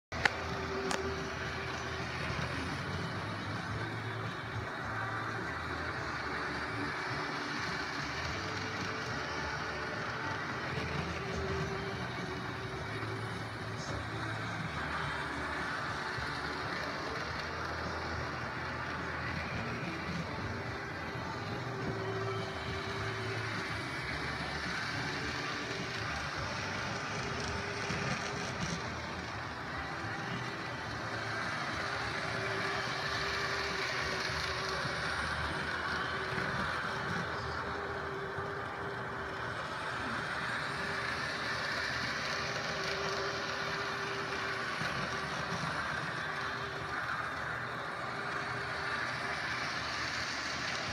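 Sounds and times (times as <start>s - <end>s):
model train running: 0.1s - 50.9s.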